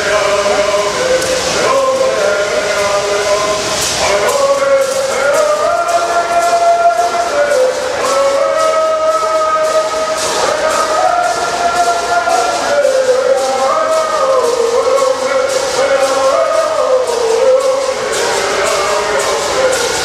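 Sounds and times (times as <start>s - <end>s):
gourd rattles shaking: 0.0s - 20.0s
group singing in unison: 0.0s - 20.0s.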